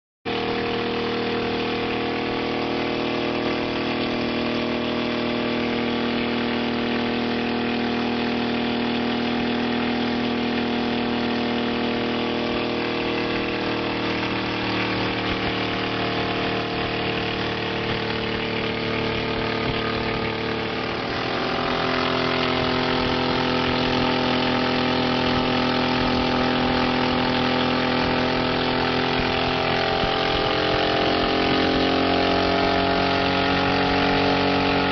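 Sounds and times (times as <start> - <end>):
helicopter engine running: 0.3 - 34.9.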